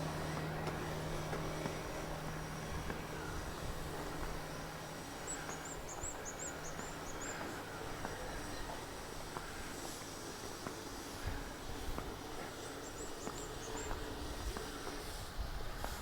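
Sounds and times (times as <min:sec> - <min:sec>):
faint street background: 0:00.0 - 0:16.0.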